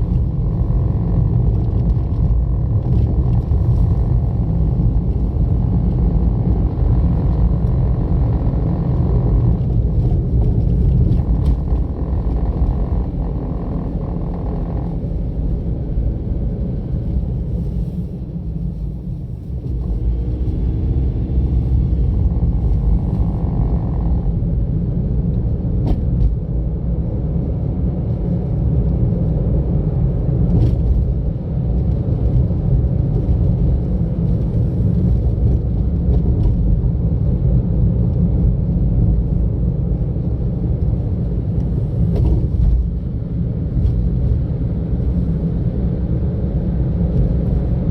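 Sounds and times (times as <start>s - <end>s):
car driving rumble: 0.0s - 47.9s.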